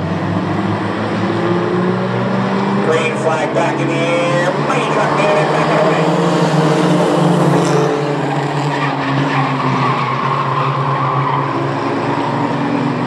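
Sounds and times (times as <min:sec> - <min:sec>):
racing truck engines at full throttle: 0:00.0 - 0:13.0.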